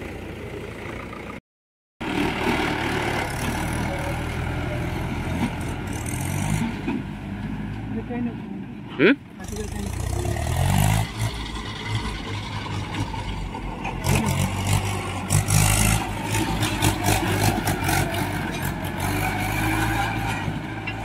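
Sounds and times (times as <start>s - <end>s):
tractor diesel engine: 0.0s - 1.4s, 2.0s - 21.0s.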